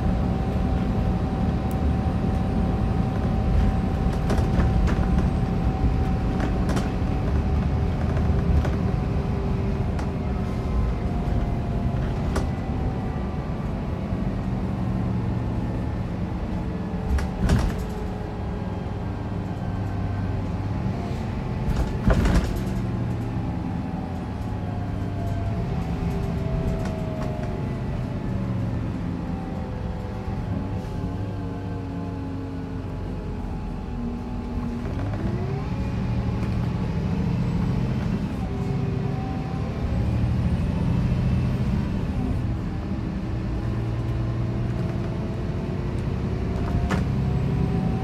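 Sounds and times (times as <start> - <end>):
coach engine and road noise: 0.0 - 48.0.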